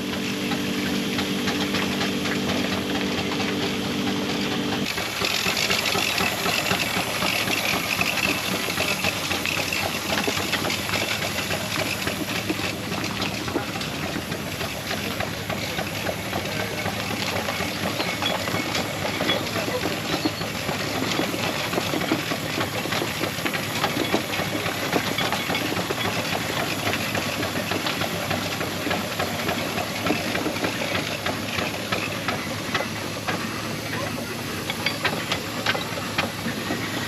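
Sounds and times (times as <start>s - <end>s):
steam engine ticking clatter: 0.0s - 37.0s
steam hissing: 0.0s - 37.0s.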